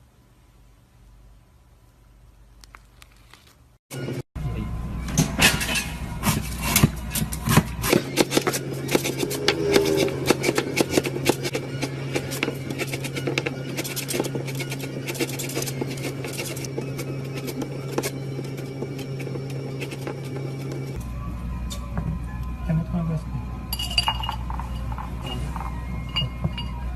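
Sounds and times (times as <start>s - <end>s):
steady low hum: 3.9s - 26.9s.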